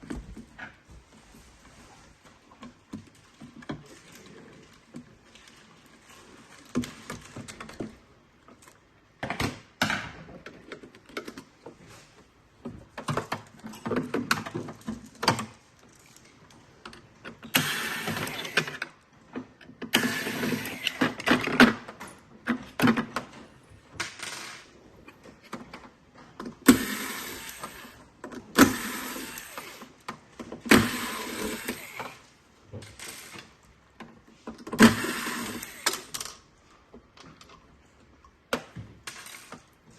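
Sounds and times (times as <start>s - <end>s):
plastic parts clicking and rattling: 2.5s - 11.9s, 12.6s - 39.9s.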